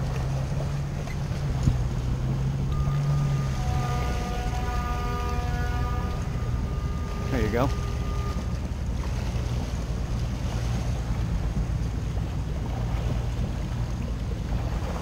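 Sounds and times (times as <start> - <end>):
boat engine running low: 0.0 - 15.0
water moving around hull: 0.0 - 15.0
wind on microphone: 0.0 - 15.0.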